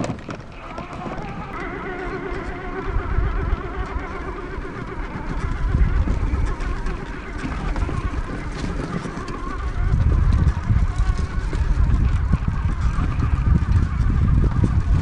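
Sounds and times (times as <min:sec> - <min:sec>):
electric motor whining: 0:00.2 - 0:15.0.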